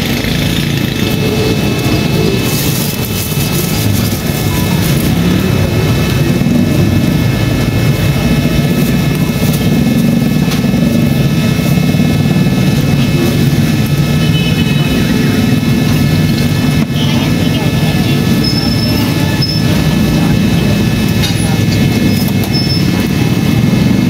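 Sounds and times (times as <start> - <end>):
machine drone with whine: 0.0 - 24.0.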